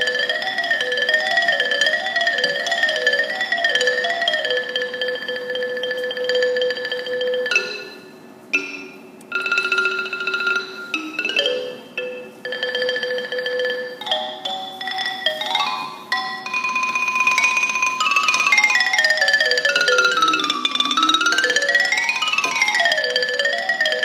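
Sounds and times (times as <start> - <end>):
xylophone tremolo rolls: 0.0 - 24.0.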